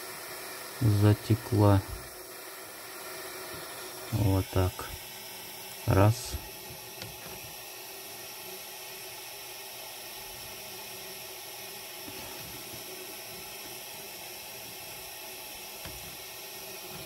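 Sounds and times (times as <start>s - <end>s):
soldering torch flame hissing: 0.0s - 17.0s.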